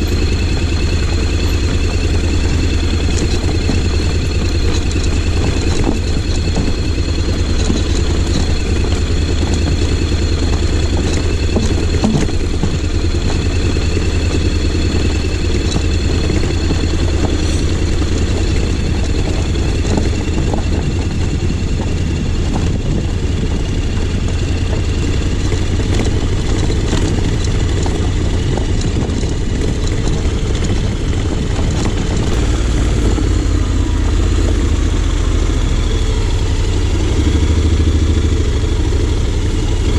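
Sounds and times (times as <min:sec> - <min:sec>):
sharp clicks and knocks: 0:00.0 - 0:34.7
motorcycle engine running: 0:00.0 - 0:39.9.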